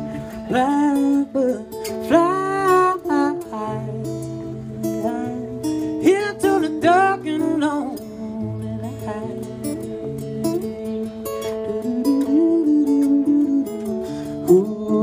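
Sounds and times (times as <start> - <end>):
acoustic guitar fingerpicking: 0.0 - 15.0.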